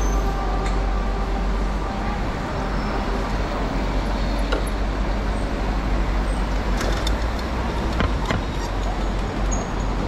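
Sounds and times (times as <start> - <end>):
passing vehicles: 0.0 - 10.0.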